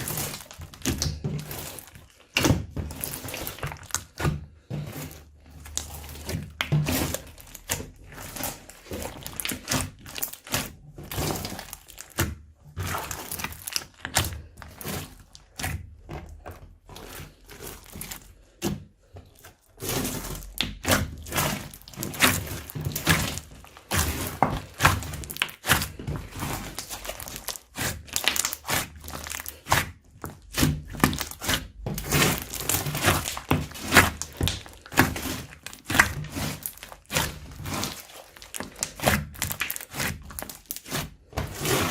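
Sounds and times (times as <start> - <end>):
slime crackling and squelching: 0.0 - 41.9.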